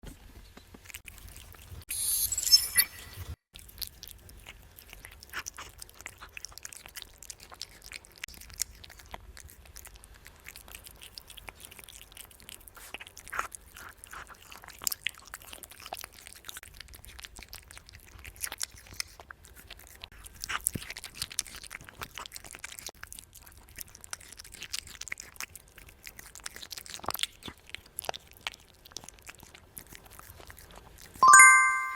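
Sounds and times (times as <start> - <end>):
cat crunching food: 0.8 - 1.8, 3.6 - 31.2.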